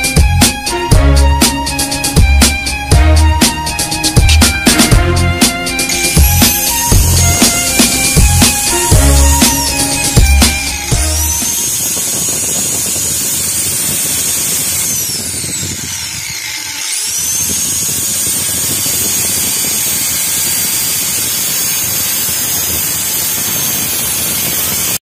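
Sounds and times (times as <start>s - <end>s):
angle grinder motor whining: 0.0s - 25.0s.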